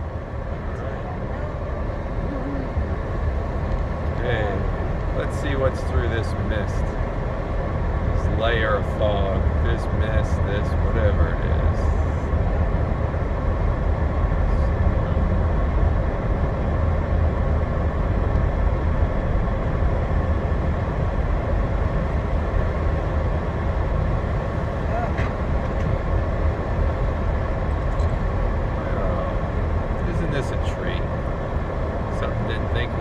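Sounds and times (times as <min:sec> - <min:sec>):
car cabin road rumble: 0:00.0 - 0:33.0.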